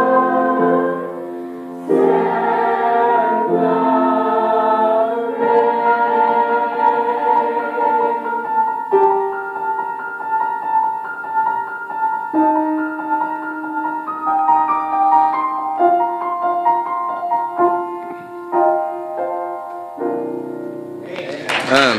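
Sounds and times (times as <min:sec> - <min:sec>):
grand piano playing: 0:00.0 - 0:21.9.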